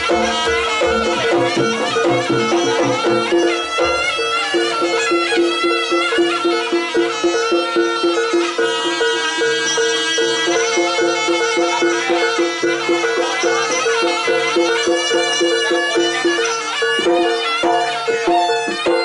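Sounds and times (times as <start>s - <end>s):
gamelan repeating figure: 0.0s - 19.0s
reedy wavering melody: 0.0s - 19.0s.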